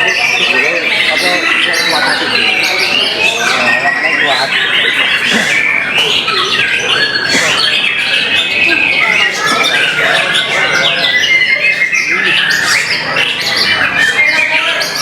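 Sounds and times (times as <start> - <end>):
caged songbirds singing: 0.0 - 15.0.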